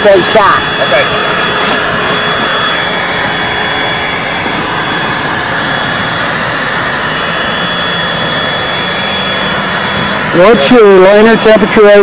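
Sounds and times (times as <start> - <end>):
plastic welder rushing whine: 0.0 - 12.0.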